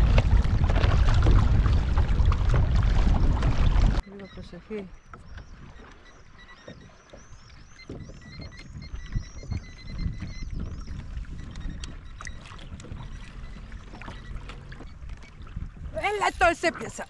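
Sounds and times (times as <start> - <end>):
water sloshing against kayak hull: 0.0 - 17.0.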